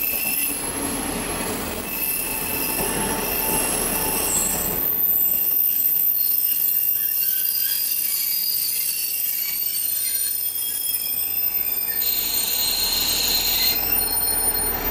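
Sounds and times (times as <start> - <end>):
high-pitched metallic squeals: 0.0 - 14.9
train rolling to a stop: 0.0 - 14.9.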